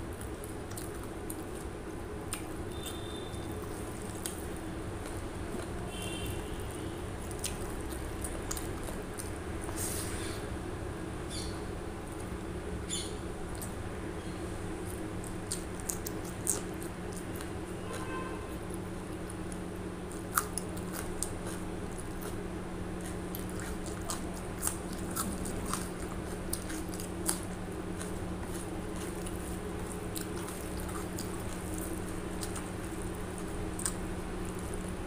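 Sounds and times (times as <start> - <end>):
chewing and wet mouth sounds: 0.0 - 10.4, 13.4 - 13.9, 14.8 - 35.0.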